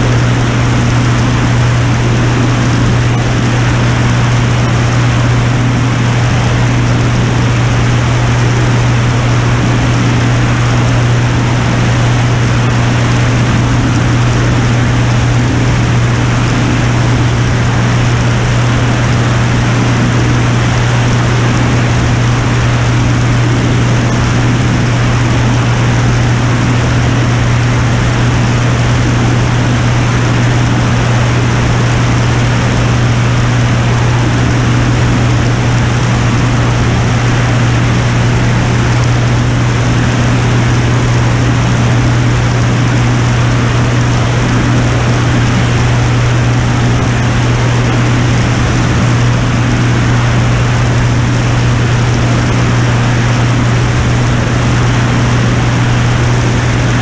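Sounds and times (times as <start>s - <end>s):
aircraft engine and propeller droning: 0.0s - 57.0s
wind rush: 0.0s - 57.0s.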